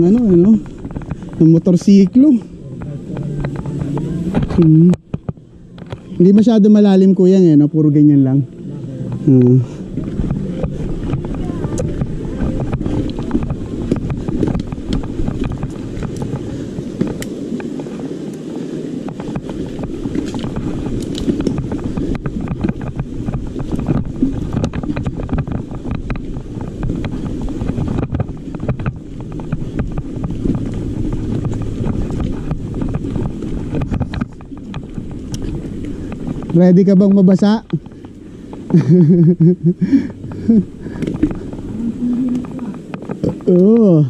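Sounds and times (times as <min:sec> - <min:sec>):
bike rattling over bumps: 0:00.0 - 0:44.0
wind buffeting microphone: 0:00.0 - 0:44.0.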